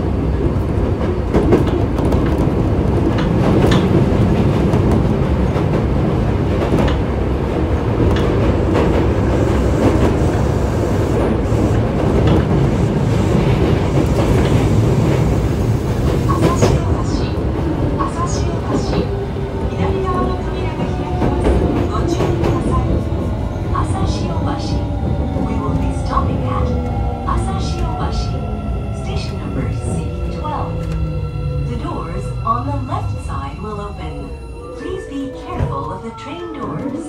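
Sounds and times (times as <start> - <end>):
rumble of wheels on rail: 0.0 - 37.0.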